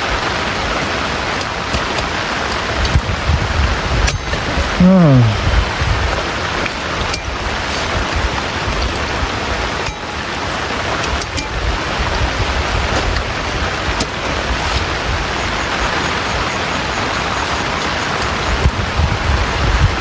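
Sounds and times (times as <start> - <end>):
heavy rain on a tent: 0.0 - 20.0.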